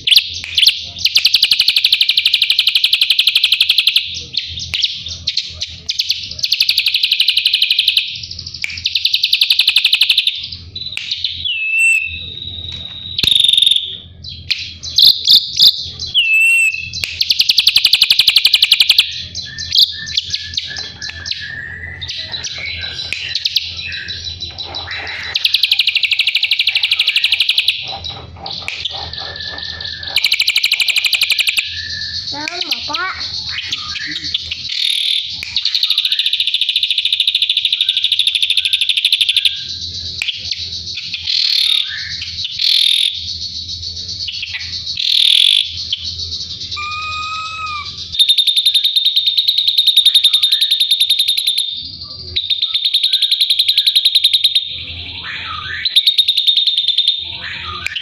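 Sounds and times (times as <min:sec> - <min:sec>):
bird singing rasping chatter: 0:00.0 - 0:58.0.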